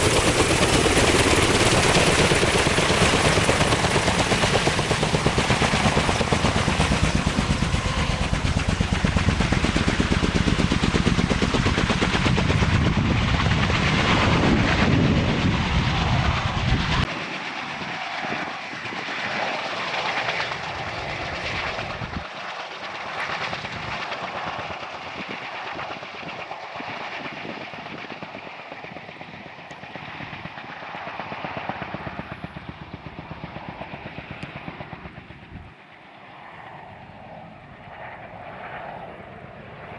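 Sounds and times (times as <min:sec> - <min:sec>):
helicopter rotors chopping: 0:00.0 - 0:36.2.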